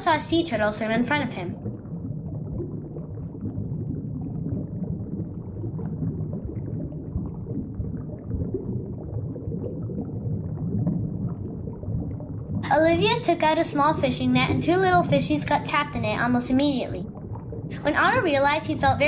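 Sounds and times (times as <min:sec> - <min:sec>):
muffled underwater bubbling: 0:00.0 - 0:19.0.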